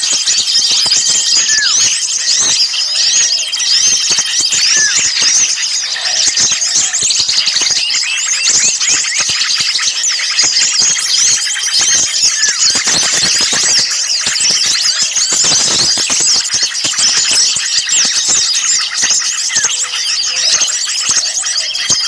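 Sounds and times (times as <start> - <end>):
small songbirds chirping and trilling: 0.0 - 22.0.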